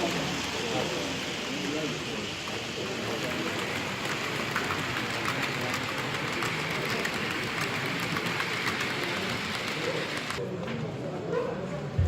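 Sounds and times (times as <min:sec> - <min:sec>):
model train wheels clicking on track: 0:00.0 - 0:10.4
model train rolling rush: 0:00.0 - 0:11.0.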